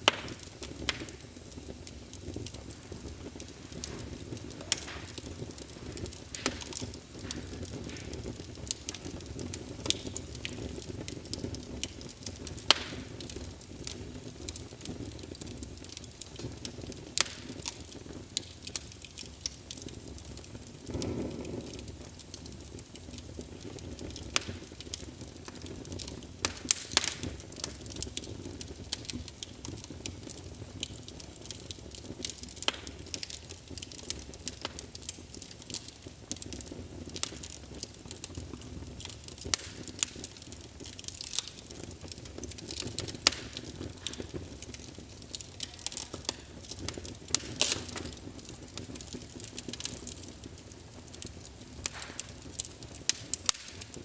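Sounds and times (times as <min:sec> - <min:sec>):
low hiss of burning: 0:00.0 - 0:54.0
wood fire crackling and popping: 0:00.0 - 0:54.0.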